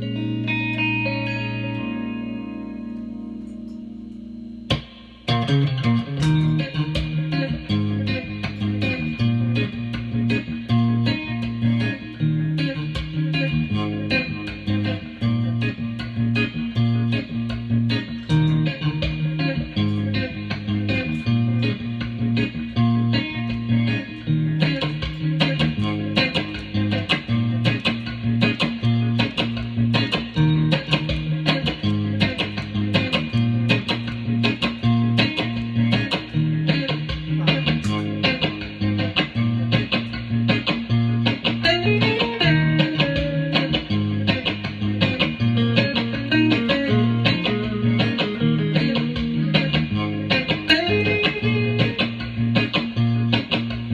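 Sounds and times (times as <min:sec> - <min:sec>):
plucked guitar: 0:00.0 - 0:53.9.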